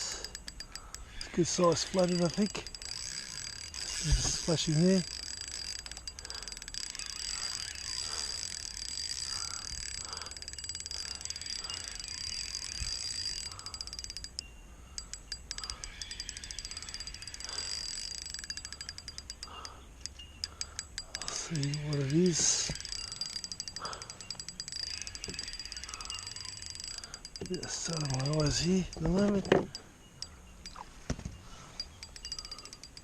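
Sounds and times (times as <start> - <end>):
fishing reel ticking: 0.0 - 33.0
high-pitched hum: 0.0 - 33.0.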